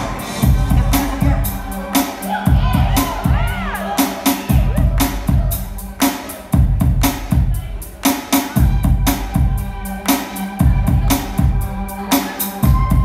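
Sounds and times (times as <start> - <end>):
drum beat: 0.0 - 13.0
sustained bass and chords: 0.0 - 13.0.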